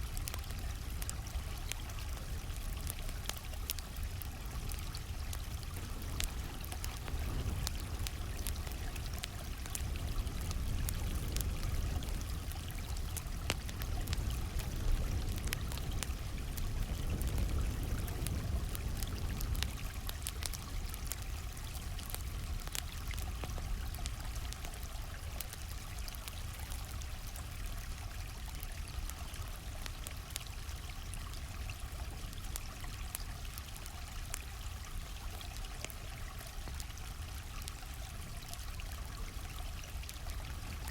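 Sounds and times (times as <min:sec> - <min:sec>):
campfire crackling and popping: 0:00.0 - 0:40.9
stream flowing: 0:00.0 - 0:40.9.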